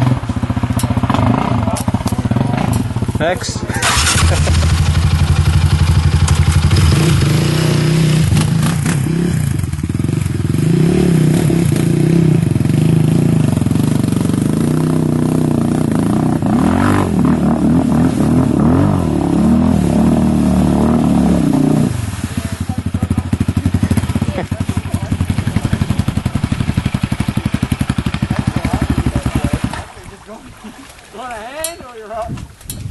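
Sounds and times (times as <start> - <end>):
quad engine revving: 0.0 - 30.0.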